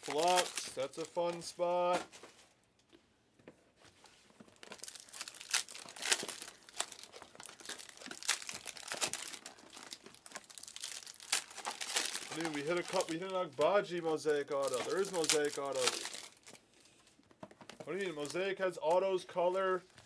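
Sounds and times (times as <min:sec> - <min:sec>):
card pack wrappers crinkling and tearing: 0:00.0 - 0:01.6, 0:04.3 - 0:20.0.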